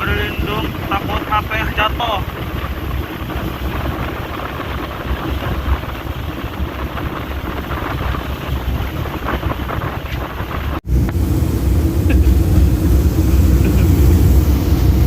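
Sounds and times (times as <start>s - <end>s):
boat rumbling through water: 0.0s - 15.0s
wind buffeting microphone: 0.0s - 15.0s.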